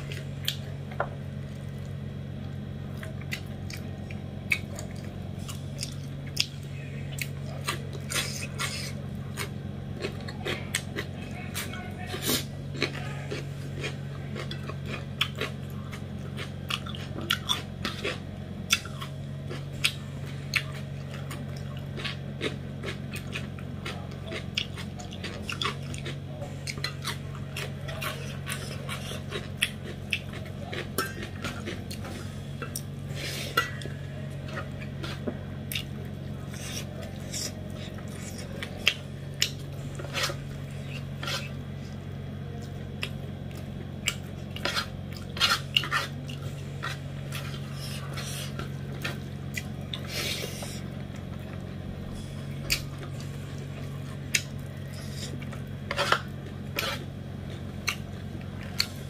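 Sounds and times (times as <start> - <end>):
person chewing food: 0.0 - 59.0
steady low hum: 0.0 - 59.0.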